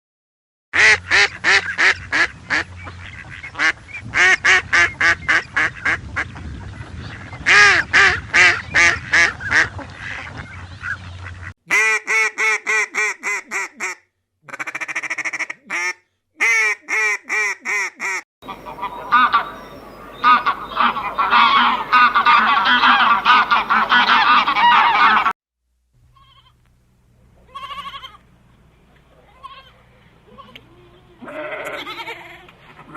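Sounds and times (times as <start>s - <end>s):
ducks quacking: 0.8s - 25.4s, 29.2s - 32.9s.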